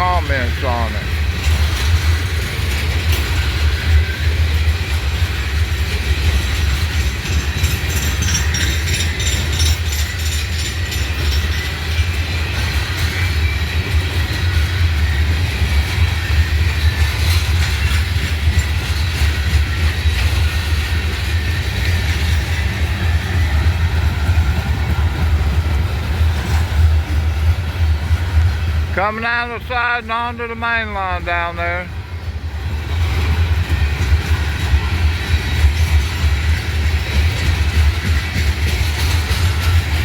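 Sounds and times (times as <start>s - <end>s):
rapid clicking of train wheels: 0.0s - 40.0s
train wheels rumbling on rail: 0.0s - 40.0s.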